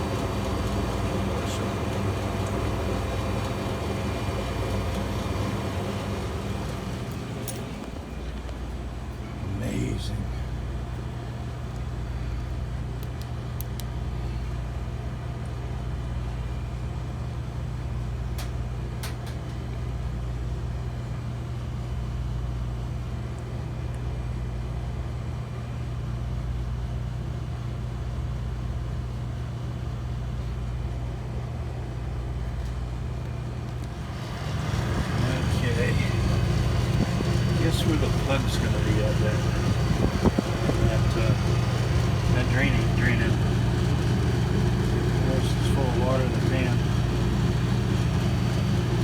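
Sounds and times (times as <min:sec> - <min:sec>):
refrigeration unit humming: 0:00.0 - 0:49.0.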